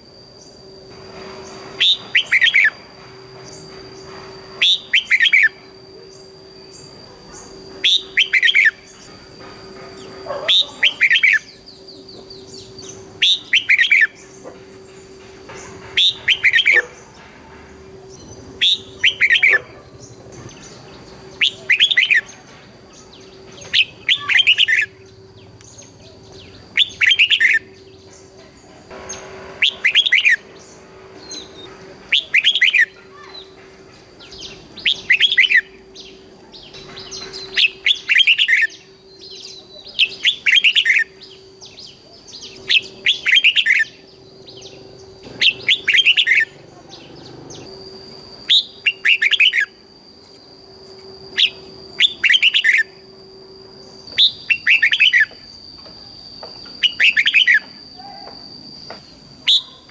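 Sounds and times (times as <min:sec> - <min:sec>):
bulbul whistling song: 0:00.0 - 0:17.3, 0:17.9 - 0:59.9
faint steady hum: 0:00.0 - 0:59.9.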